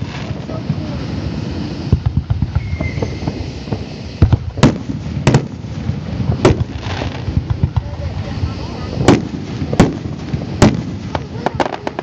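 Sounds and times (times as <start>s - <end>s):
fireworks bursting in sharp bangs: 0.0s - 12.0s
small fireworks pops: 0.0s - 12.0s.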